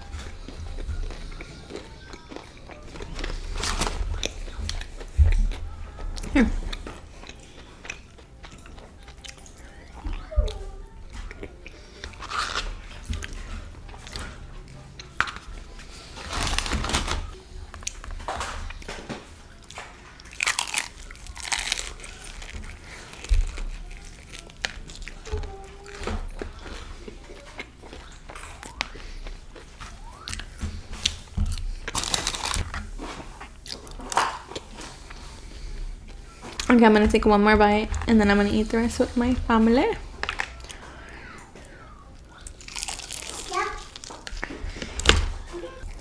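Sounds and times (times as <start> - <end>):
crunchy chewing of fried chicken: 0.0 - 46.0.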